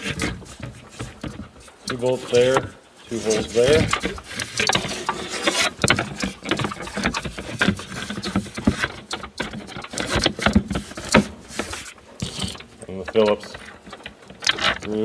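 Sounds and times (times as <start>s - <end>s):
hands handling plastic parts: 0.0s - 15.0s.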